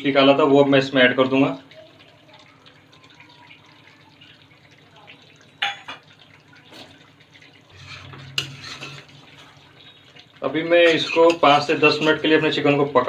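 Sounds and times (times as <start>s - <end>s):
liquid trickling and dripping: 0.0s - 13.0s.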